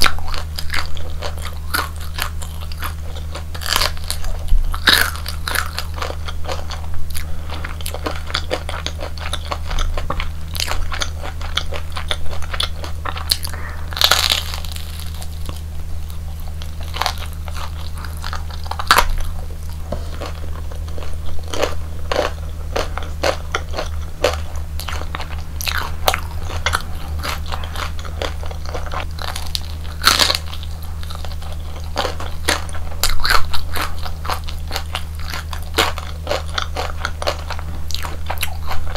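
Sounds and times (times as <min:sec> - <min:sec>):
crackly chewing: 0:00.0 - 0:38.9
crunchy biting: 0:00.0 - 0:38.9
low steady hum: 0:00.0 - 0:38.9.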